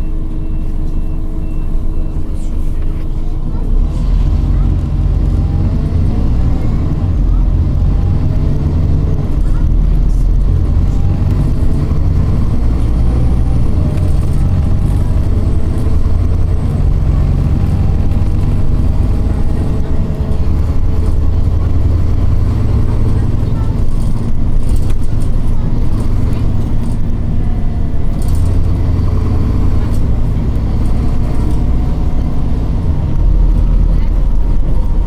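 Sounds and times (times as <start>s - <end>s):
bus engine and drivetrain hum: 0.0s - 35.0s.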